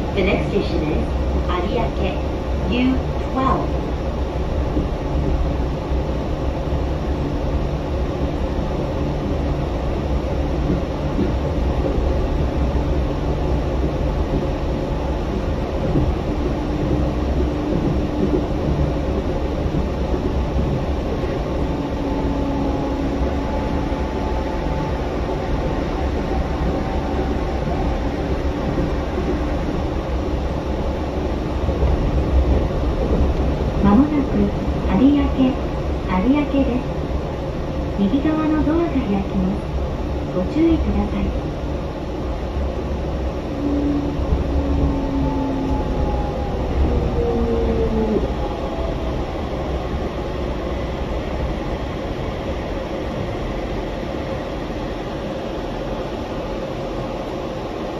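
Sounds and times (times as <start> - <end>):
train running rumble: 0.0 - 57.9.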